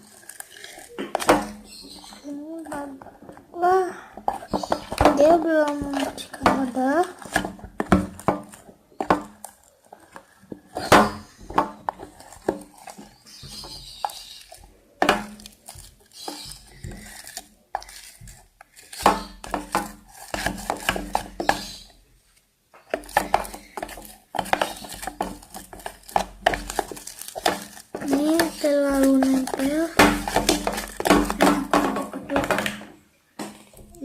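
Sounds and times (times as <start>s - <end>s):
stirrer scraping a small container: 0.0s - 3.5s, 4.1s - 22.0s, 22.9s - 32.6s.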